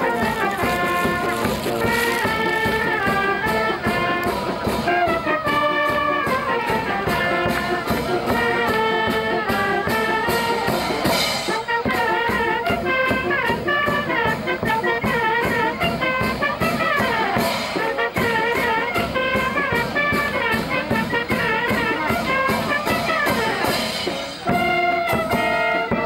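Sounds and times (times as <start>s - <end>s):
brass band playing: 0.0s - 26.0s
trumpets playing melody: 0.0s - 26.0s.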